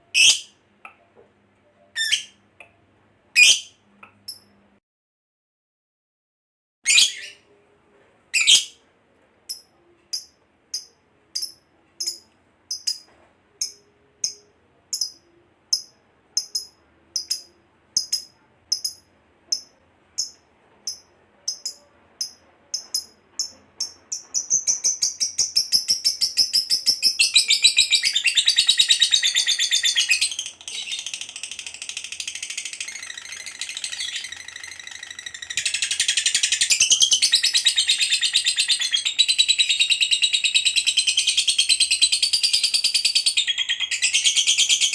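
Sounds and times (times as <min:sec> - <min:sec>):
lovebird rapid chirping chatter: 0:02.0 - 0:02.4, 0:08.4 - 0:08.8, 0:09.5 - 0:44.9.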